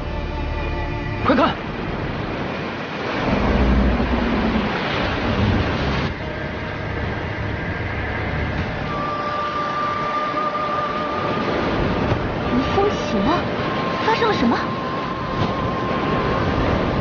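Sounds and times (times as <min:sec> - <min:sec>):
deep rumble: 0:00.0 - 0:17.0
rushing wind: 0:00.0 - 0:17.0.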